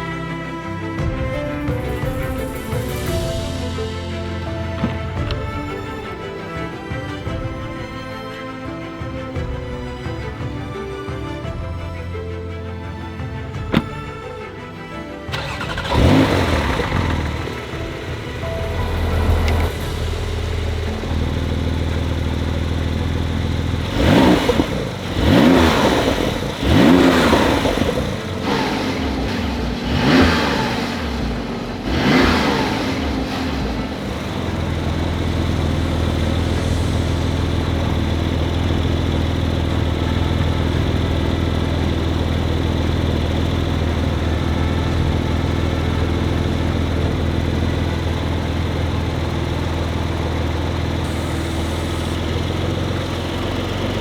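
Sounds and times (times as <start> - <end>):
car engine idling and revving: 0.0 - 8.2, 11.1 - 54.0.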